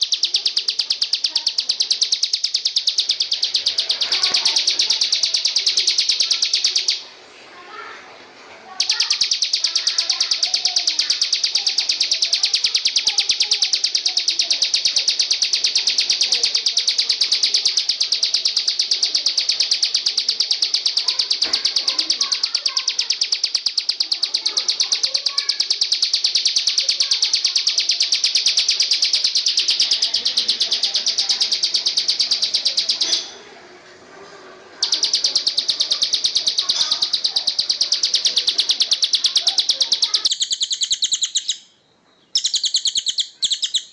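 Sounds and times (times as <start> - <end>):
insect trilling: 0.0 - 7.0, 8.8 - 33.3, 34.8 - 41.6, 42.4 - 43.9.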